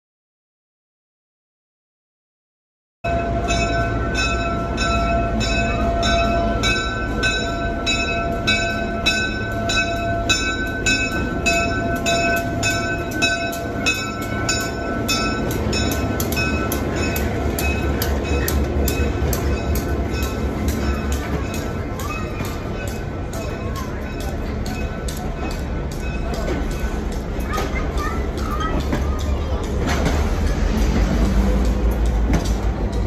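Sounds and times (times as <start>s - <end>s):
locomotive bell ringing: 3.0s - 33.0s
low locomotive engine rumble: 3.1s - 33.0s.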